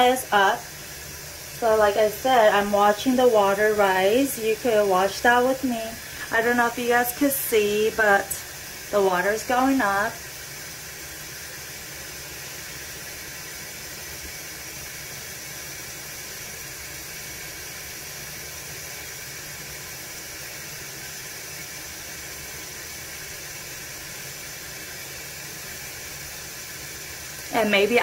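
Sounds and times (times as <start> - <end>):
tap water pouring through hose: 0.0 - 27.9.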